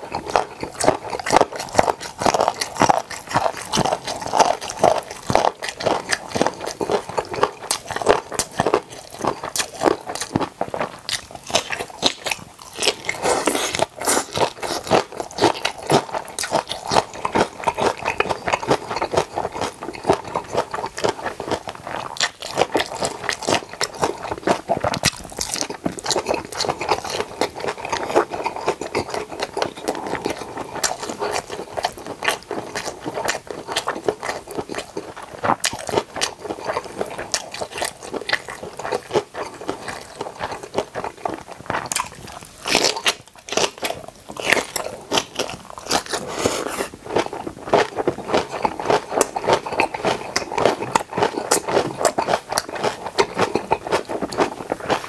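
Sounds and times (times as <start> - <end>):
close chewing of kimchi: 0.0 - 55.0.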